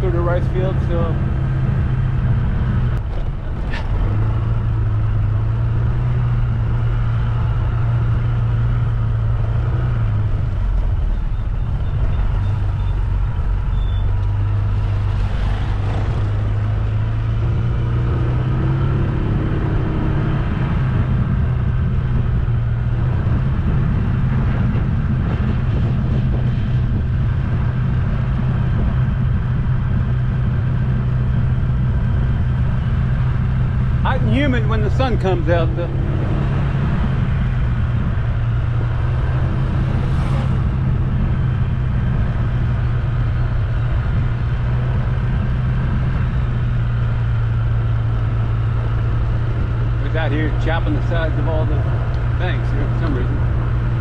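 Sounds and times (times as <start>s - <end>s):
car engine drone: 0.0s - 54.0s
road noise: 0.0s - 54.0s.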